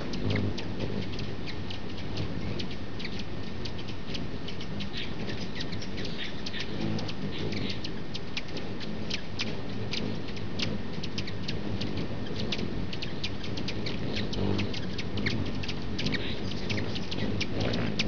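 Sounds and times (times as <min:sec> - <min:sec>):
low steady rumble: 0:00.0 - 0:18.0
small birds chipping and squeaking: 0:00.0 - 0:18.0.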